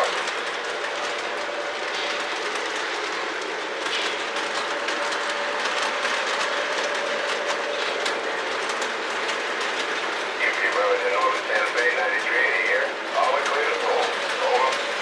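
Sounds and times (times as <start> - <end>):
model train rolling rumble: 0.0 - 15.0
wheels clicking over rail joints: 0.0 - 15.0.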